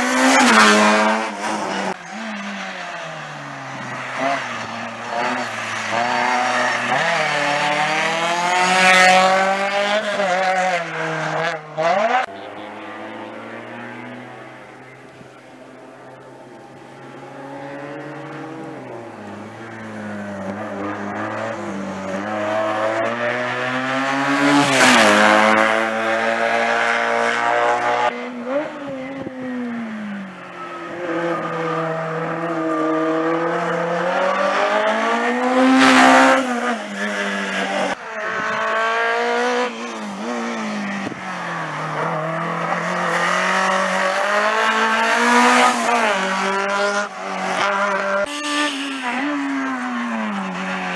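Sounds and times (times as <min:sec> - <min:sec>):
racing car engines revving: 0:00.0 - 0:50.9.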